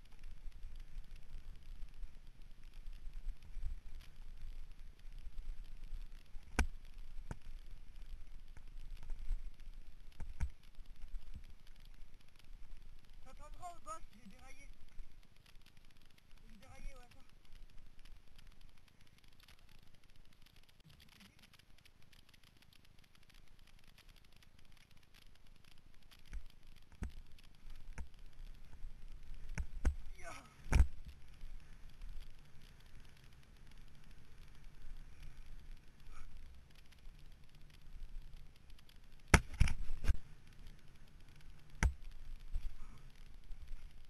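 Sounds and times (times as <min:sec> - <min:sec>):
low rumble of bike ride: 0:00.0 - 0:44.0.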